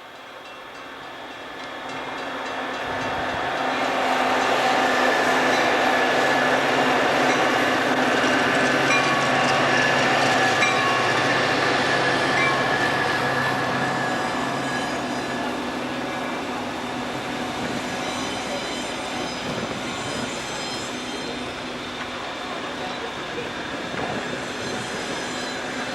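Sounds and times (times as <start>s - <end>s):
train rolling past rumbling: 0.0s - 25.9s.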